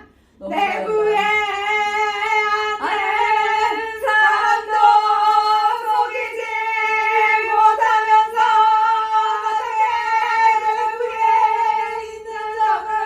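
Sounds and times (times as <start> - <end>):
woman singing held vowel: 0.0 - 13.0.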